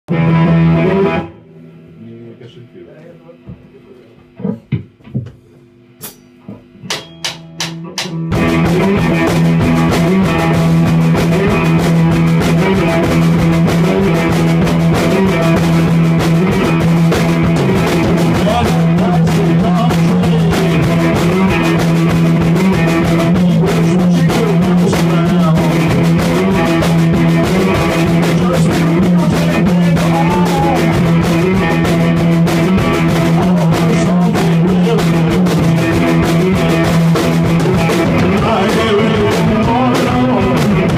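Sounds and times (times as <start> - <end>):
electric guitar strummed: 0.1 - 5.0, 5.6 - 40.9
busy drum beat: 3.4 - 40.9.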